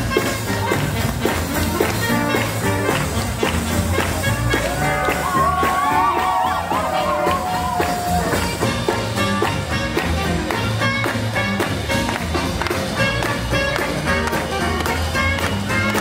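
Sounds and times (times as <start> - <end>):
live band playing swing music: 0.0 - 16.0.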